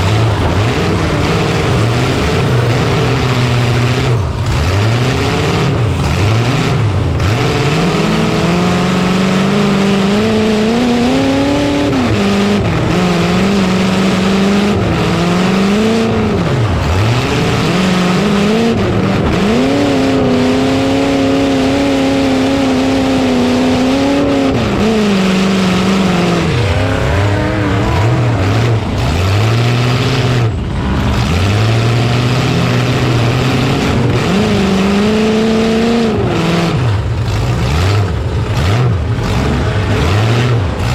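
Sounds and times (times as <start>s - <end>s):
loud constant noise: 0.0s - 40.9s
truck engine revving hard: 0.0s - 40.9s.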